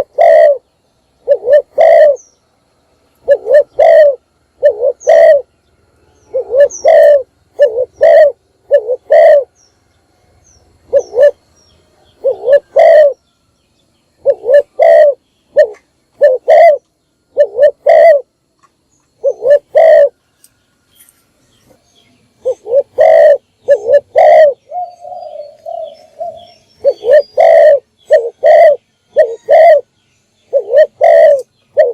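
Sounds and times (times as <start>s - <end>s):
dove cooing: 0.0s - 2.4s, 3.2s - 9.7s, 10.7s - 13.3s, 14.2s - 18.4s, 19.2s - 20.2s, 22.4s - 31.9s.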